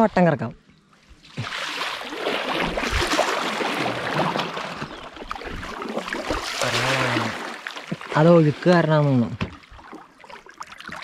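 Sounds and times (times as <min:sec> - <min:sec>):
kayak paddles splashing water: 0:01.2 - 0:11.0.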